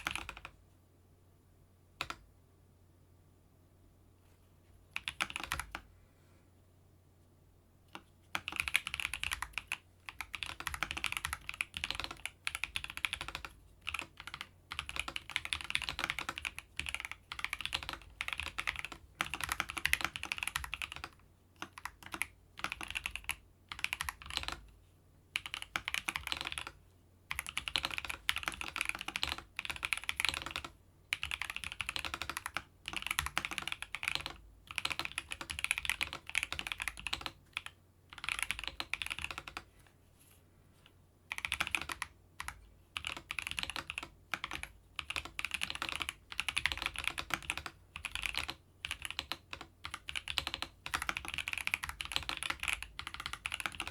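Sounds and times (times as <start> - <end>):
mechanical keyboard typing: 0.0 - 0.6, 5.0 - 5.8, 7.9 - 24.6, 25.4 - 39.7, 41.3 - 53.9.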